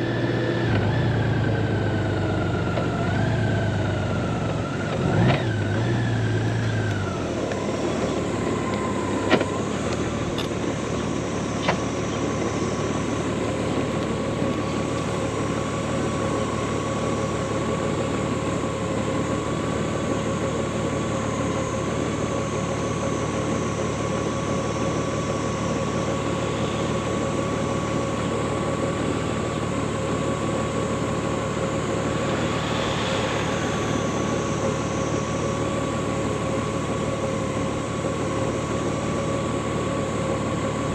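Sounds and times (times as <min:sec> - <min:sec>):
motorcycle engine idling: 0:00.0 - 0:40.9
steady high whine: 0:00.0 - 0:40.9.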